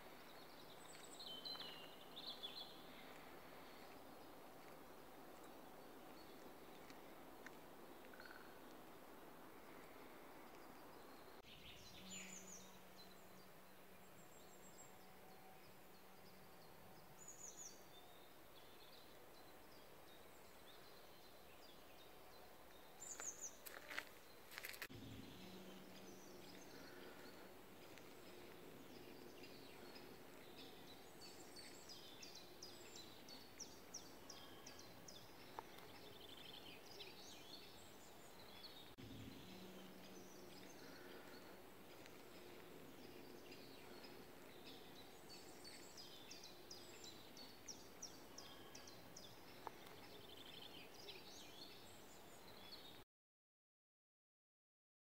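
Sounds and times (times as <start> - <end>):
songbirds singing: 0.0 - 53.0.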